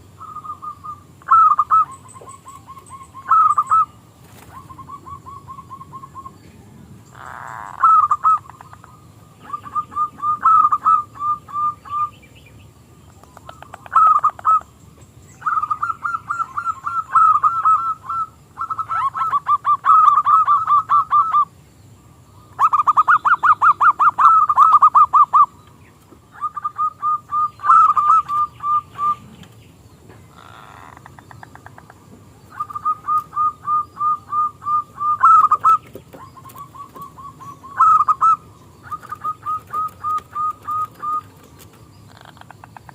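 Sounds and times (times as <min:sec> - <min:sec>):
dove cooing: 0:00.0 - 0:12.2, 0:13.2 - 0:14.7, 0:15.4 - 0:21.5, 0:22.4 - 0:25.6, 0:26.3 - 0:29.6, 0:30.3 - 0:42.9.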